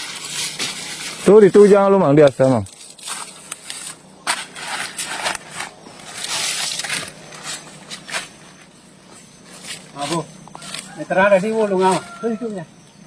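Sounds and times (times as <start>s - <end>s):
crunching and crackling: 0.0s - 12.3s
rustling: 0.0s - 12.5s.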